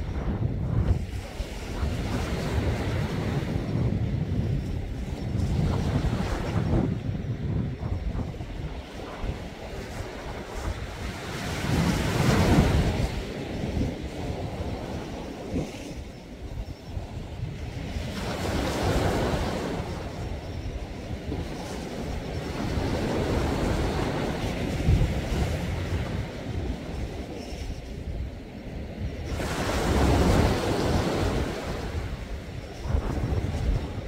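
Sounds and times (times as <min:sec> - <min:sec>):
sea waves washing in: 0:00.0 - 0:34.0
wind gusts on microphone: 0:00.0 - 0:34.0.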